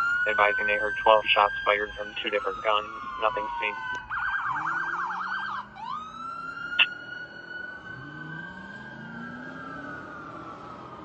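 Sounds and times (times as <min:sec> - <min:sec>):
fire engine siren: 0:00.0 - 0:11.0.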